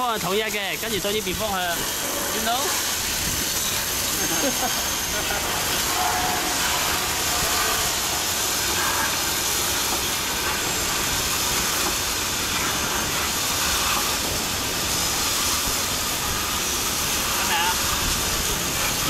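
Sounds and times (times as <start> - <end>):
hose water spraying on metal: 0.0 - 19.0.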